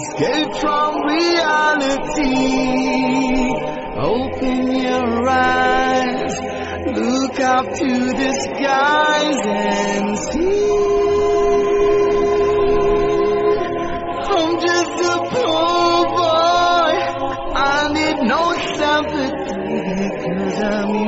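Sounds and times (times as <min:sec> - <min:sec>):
music with singing voices: 0:00.0 - 0:21.0.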